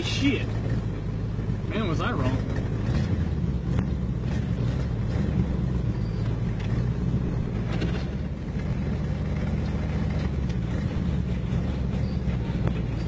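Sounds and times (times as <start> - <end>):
engine droning at cruise: 0.0 - 13.0
road noise: 0.0 - 13.0.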